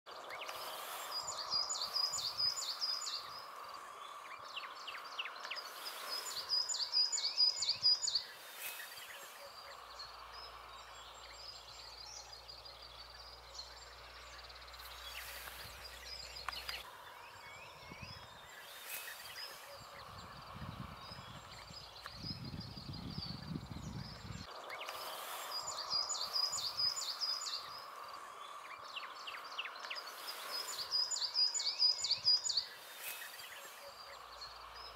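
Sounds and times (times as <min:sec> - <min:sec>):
forest hiss: 0:00.1 - 0:22.0, 0:24.4 - 0:34.9.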